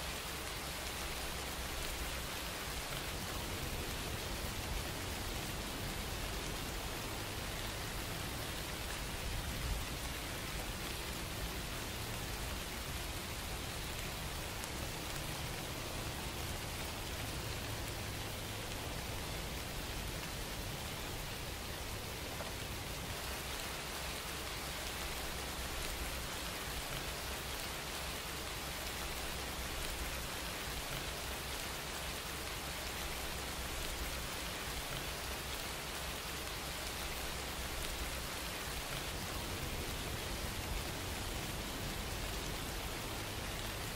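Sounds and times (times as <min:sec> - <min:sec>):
steady hiss: 0:00.0 - 0:43.9.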